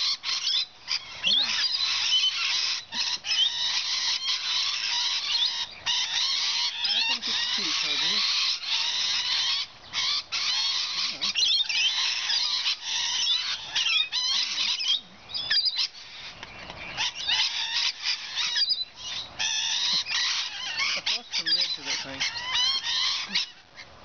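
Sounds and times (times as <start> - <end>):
parrots screeching and chattering: 0.0 - 24.0.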